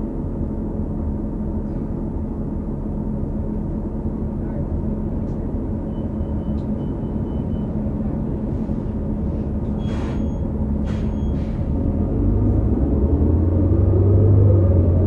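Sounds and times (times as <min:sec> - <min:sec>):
bus interior engine drone: 0:00.0 - 0:15.0.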